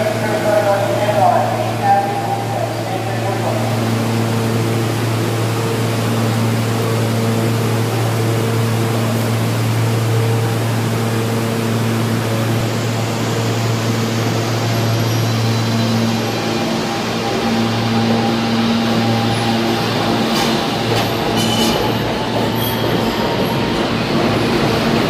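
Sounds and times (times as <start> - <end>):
subway train equipment hum: 0.0 - 25.0.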